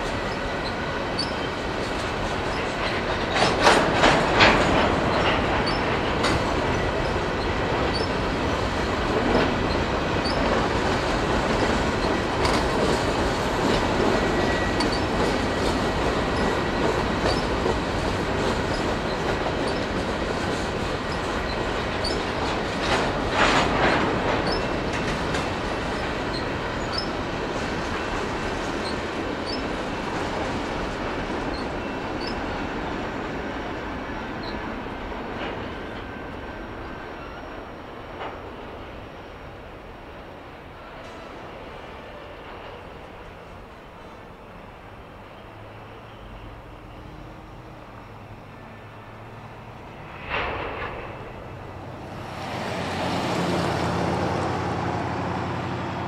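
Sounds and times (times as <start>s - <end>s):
train clattering: 0.0s - 56.0s
train wheels rumbling on rails: 0.0s - 56.0s.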